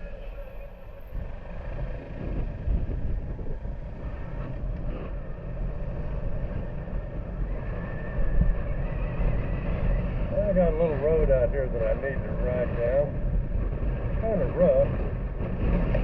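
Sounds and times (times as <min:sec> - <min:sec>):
road and wind rumble: 0:00.0 - 0:16.0.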